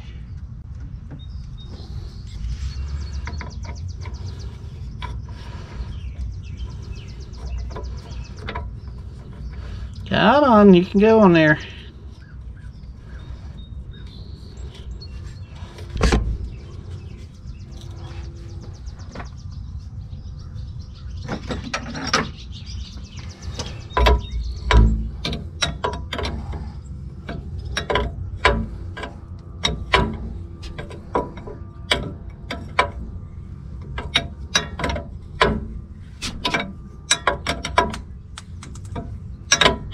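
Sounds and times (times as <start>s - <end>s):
low rumble: 0.0s - 39.9s.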